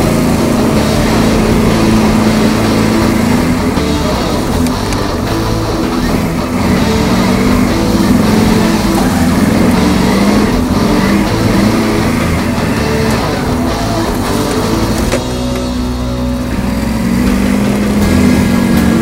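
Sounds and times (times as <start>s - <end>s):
atv engine running: 0.0s - 19.0s
background music: 0.0s - 19.0s
vehicle pushing through snow: 0.0s - 19.0s.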